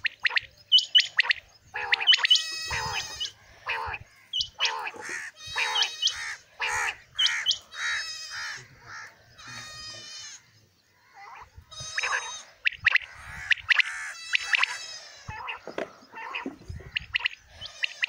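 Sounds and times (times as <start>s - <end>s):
quails calling: 0.0s - 18.0s.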